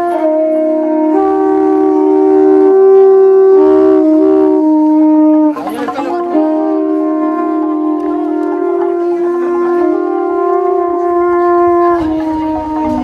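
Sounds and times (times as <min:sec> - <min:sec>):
twin-pipe reed instrument tune: 0:00.0 - 0:13.0.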